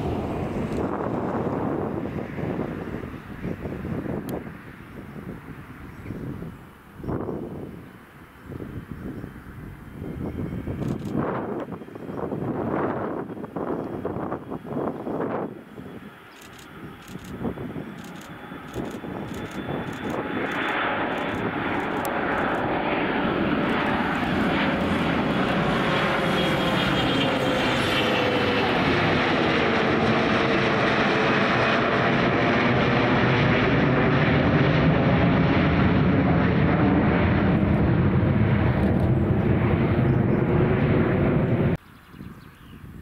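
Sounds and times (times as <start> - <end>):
jet climbing after takeoff: 0.0 - 43.0.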